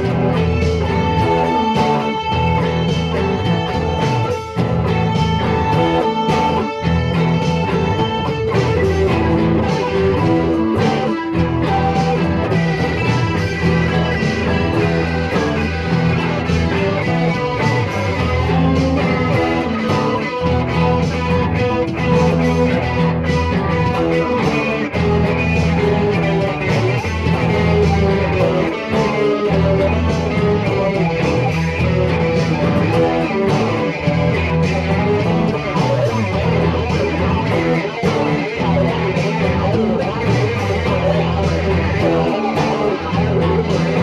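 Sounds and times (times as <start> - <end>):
band playing instrumental: 0.0 - 44.0
lead guitar: 0.0 - 44.0.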